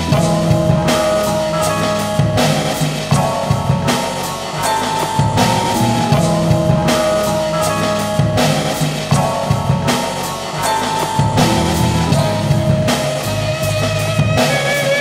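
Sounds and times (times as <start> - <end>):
instrumental hip hop beat: 0.0 - 15.0.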